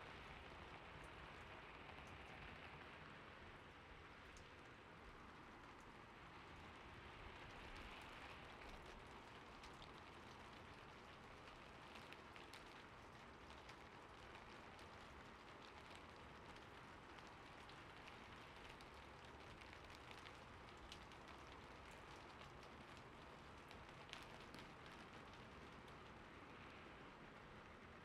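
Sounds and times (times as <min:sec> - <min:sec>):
gentle rain: 0:00.0 - 0:28.0.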